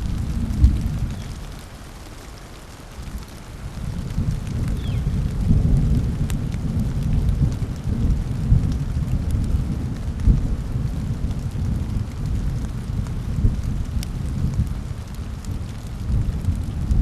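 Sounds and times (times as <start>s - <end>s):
low thunder rumble: 0.0s - 1.6s, 3.1s - 17.0s
rain hiss: 0.0s - 17.0s.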